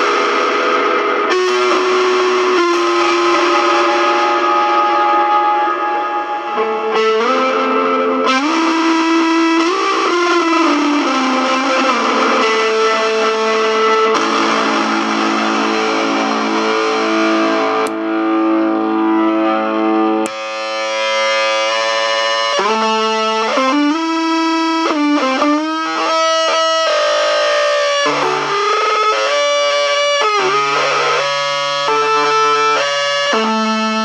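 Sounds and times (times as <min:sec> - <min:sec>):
distorted electric guitar: 0:00.0 - 0:34.0.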